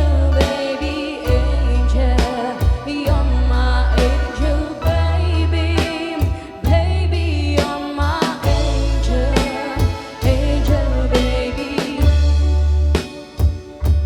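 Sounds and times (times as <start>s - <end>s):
person singing with vibrato: 0.0s - 13.4s
bass line: 0.0s - 14.0s.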